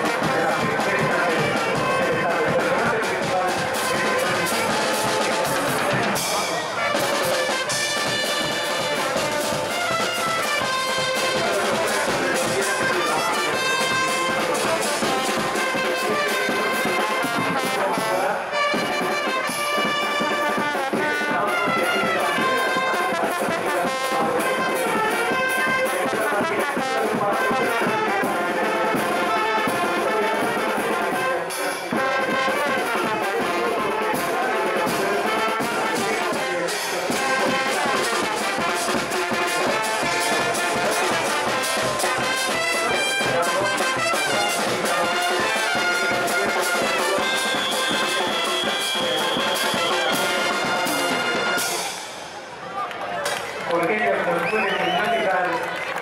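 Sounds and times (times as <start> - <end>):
steady drum beat: 0.0 - 52.3
trumpets and trombones melody: 0.0 - 52.3.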